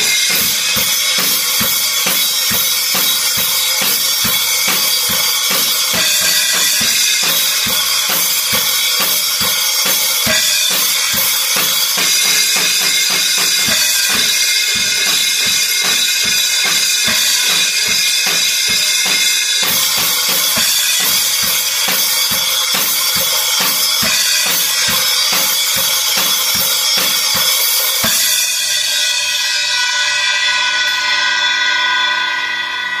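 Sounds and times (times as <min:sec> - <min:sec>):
drum kit playing a beat: 0:00.0 - 0:31.6
cymbals ringing: 0:00.0 - 0:33.0.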